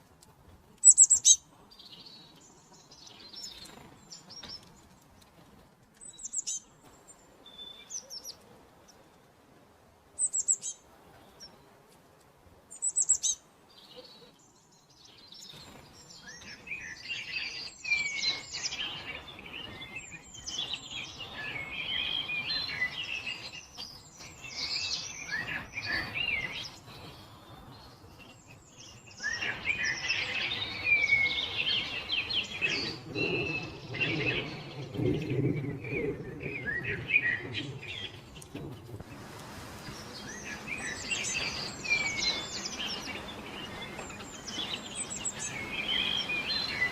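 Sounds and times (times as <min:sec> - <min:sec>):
birds chirping and singing: 0:00.7 - 0:05.4, 0:06.0 - 0:09.0, 0:12.7 - 0:39.0, 0:39.8 - 0:46.9.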